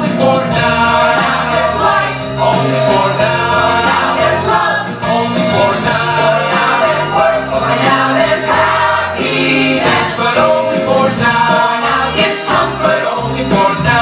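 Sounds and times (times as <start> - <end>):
cast singing together: 0.0 - 14.0
instrumental accompaniment: 0.0 - 14.0.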